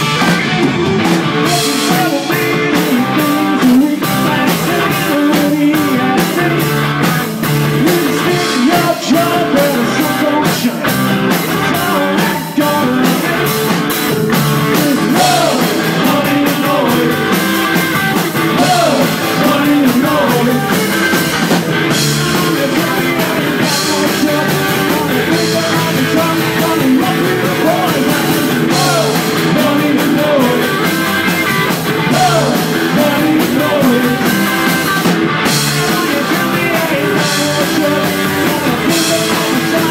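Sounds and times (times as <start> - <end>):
person singing: 0.0 - 7.0, 7.7 - 13.9, 14.6 - 17.6, 18.4 - 21.3, 21.9 - 31.0, 32.0 - 34.8, 35.6 - 39.9
drum kit: 0.0 - 39.9
electric guitar: 0.0 - 39.9.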